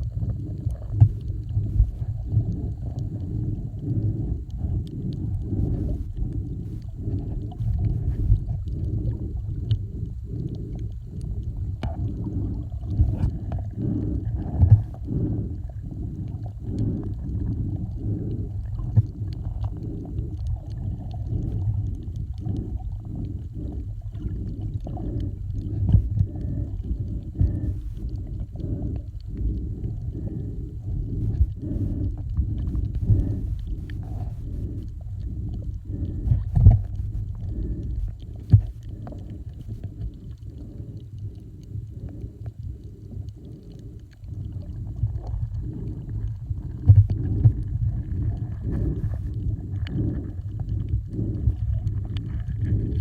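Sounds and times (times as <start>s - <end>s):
water sloshing against a kayak: 0.0s - 53.0s.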